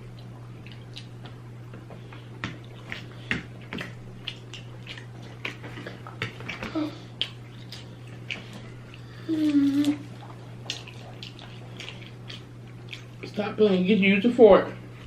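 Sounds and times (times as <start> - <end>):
wet chewing smacks: 0.0 - 13.4
steady low hum: 0.0 - 15.0.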